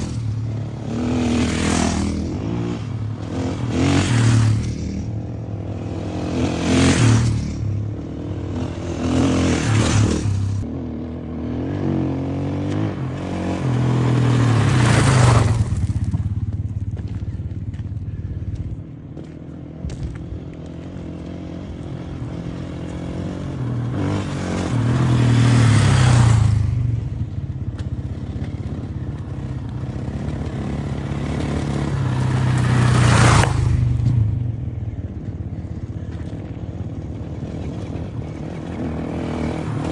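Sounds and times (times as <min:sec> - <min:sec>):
motocross bike engines revving: 0:00.0 - 0:19.0, 0:19.8 - 0:27.4, 0:28.0 - 0:39.9.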